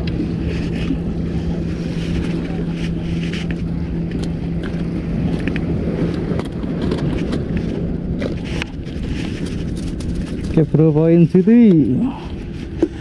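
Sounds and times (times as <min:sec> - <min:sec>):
steady low hum: 0:00.0 - 0:13.0
wind rumbling on microphone: 0:00.0 - 0:13.0.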